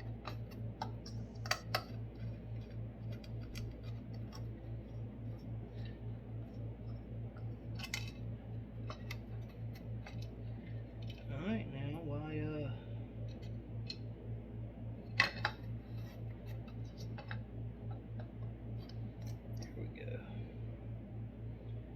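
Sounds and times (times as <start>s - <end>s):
low pulsing hum: 0.0s - 21.9s.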